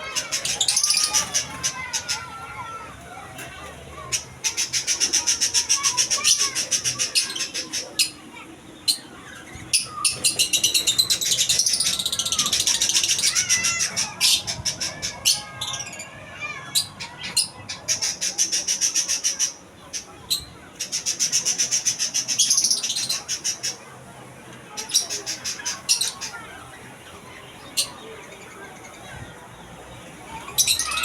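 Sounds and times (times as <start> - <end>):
caged birds chirping and squawking: 0.0 - 31.0.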